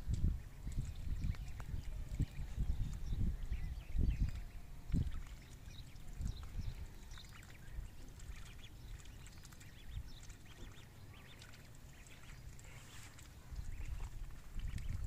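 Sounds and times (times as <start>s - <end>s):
ducklings peeping: 0.1s - 15.0s.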